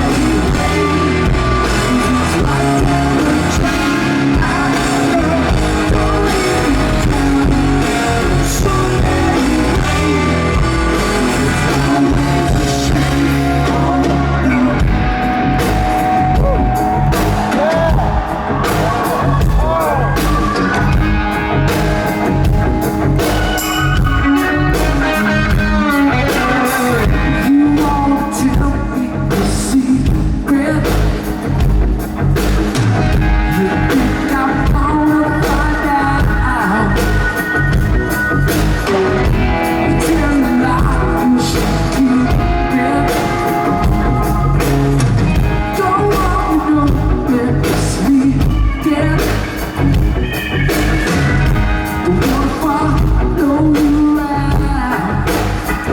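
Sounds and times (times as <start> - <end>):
person singing lead vocal: 0.0 - 31.7, 33.0 - 55.9
bass guitar: 0.0 - 55.9
drum kit beat: 0.0 - 55.9
electric guitars: 0.0 - 55.9.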